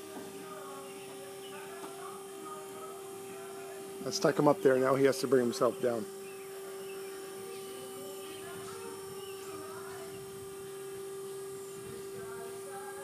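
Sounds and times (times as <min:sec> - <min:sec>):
power unit humming: 0:00.0 - 0:13.0.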